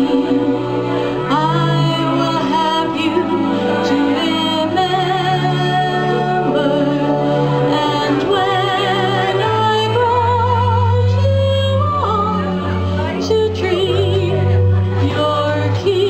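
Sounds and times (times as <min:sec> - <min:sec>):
instrumental backing through speakers: 0:00.0 - 0:16.0
woman singing into microphone: 0:00.0 - 0:16.0.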